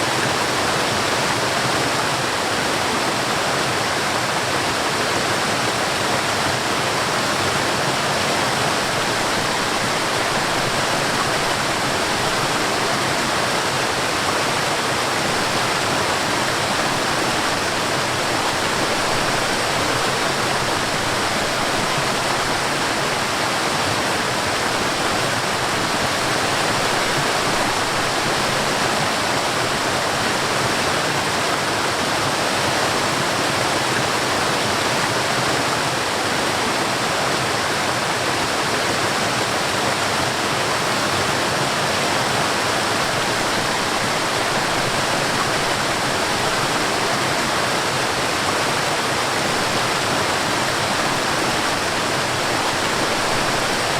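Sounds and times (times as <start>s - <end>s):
waterfall rushing water: 0.0s - 53.9s.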